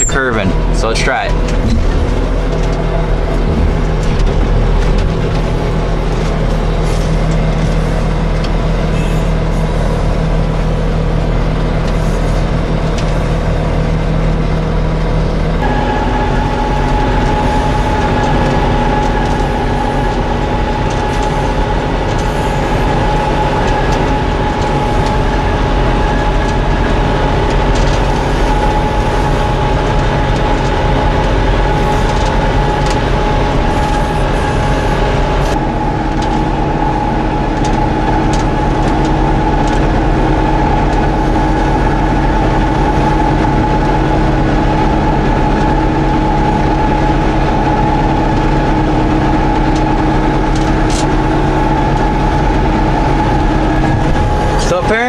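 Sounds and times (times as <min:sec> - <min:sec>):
tractor and baler droning: 0:00.0 - 0:55.0.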